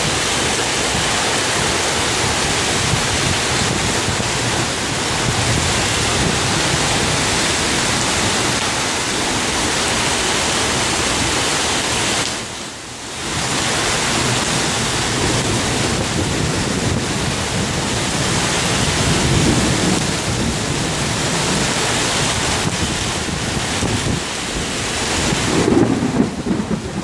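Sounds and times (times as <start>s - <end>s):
wind buffeting the microphone: 0.0s - 11.4s, 13.2s - 27.0s
torrential rain pouring: 0.0s - 27.0s.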